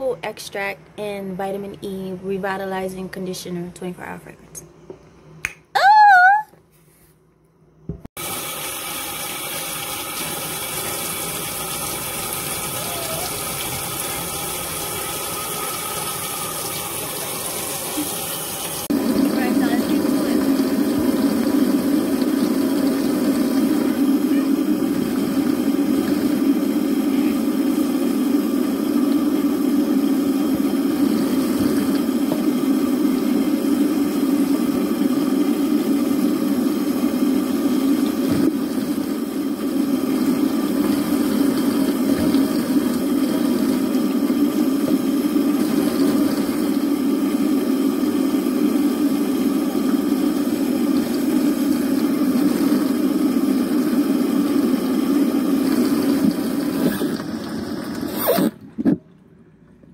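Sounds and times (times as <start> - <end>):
water running from a faucet: 8.2 - 58.2.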